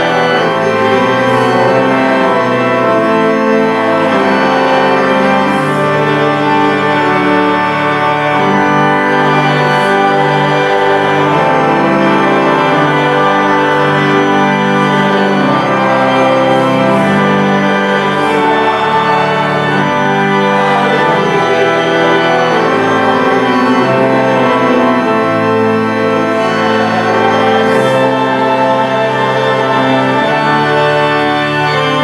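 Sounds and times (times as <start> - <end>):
church organ chords: 0.0 - 32.0.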